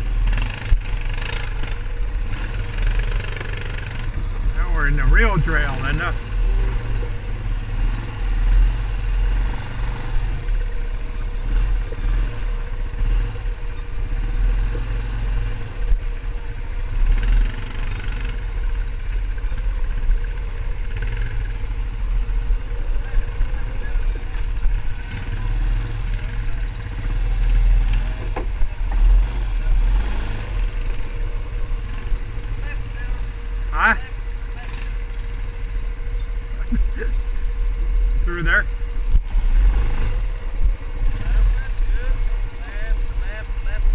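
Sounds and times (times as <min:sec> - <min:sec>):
quad bike engine rumble: 0:00.0 - 0:43.9.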